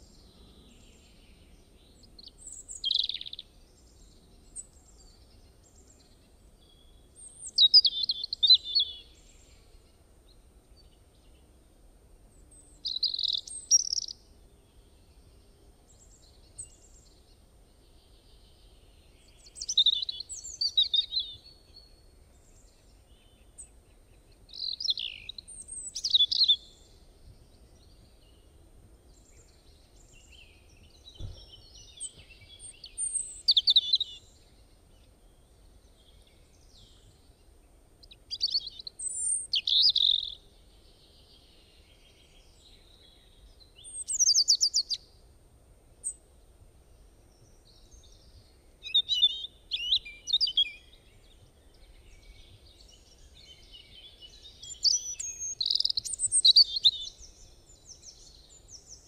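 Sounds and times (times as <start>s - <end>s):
faint background hiss: 0.0s - 59.0s
songbirds chirping and trilling: 0.0s - 59.0s.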